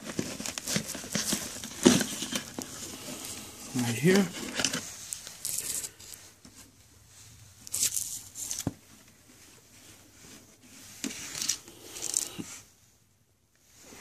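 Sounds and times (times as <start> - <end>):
fabric holster rustling and scraping: 0.0 - 12.8.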